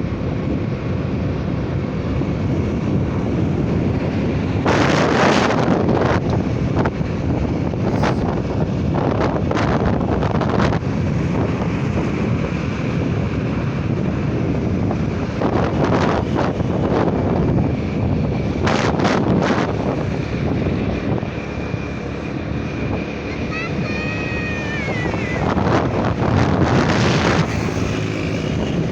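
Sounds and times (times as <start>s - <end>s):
motorcycle engine and road noise: 0.0s - 28.9s
wind buffeting microphone: 0.0s - 28.9s.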